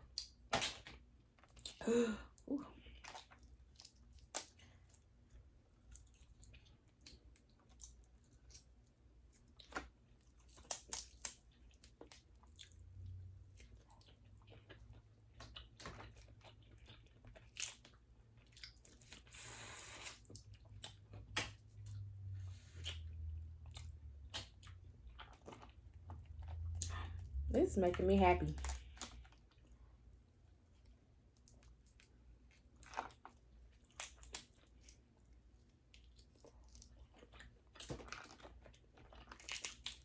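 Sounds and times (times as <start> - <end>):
person chewing: 2.8 - 27.4, 30.4 - 40.0.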